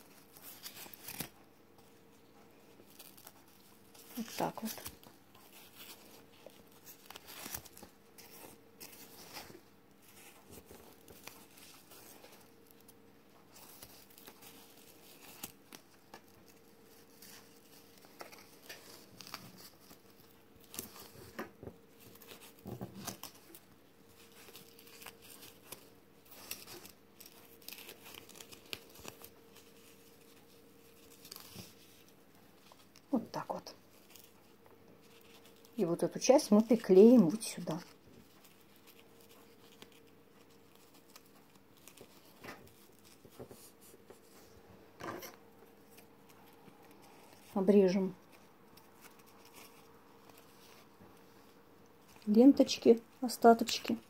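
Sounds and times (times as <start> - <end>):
faint steady hum: 0.0 - 54.0
ribbon rustling: 0.0 - 54.0.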